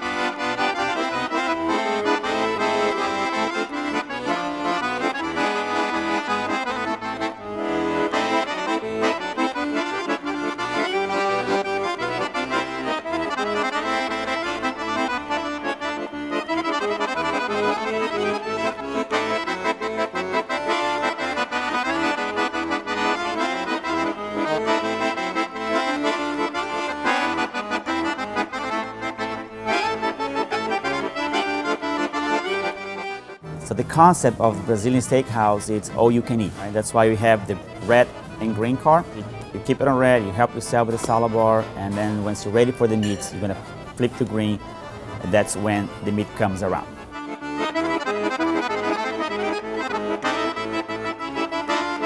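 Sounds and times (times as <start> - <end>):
instrumental music with held chords: 0.0 - 52.0.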